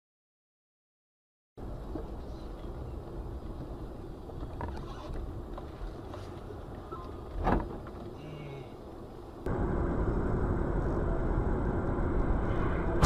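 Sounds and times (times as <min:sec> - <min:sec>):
vehicle road and engine rumble: 0:01.6 - 0:13.0.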